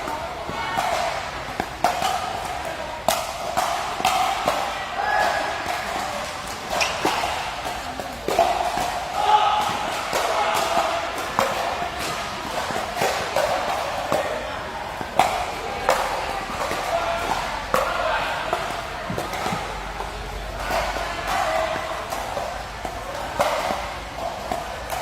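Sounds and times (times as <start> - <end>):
ball striking rackets: 0.0 - 25.0
voices: 0.0 - 25.0.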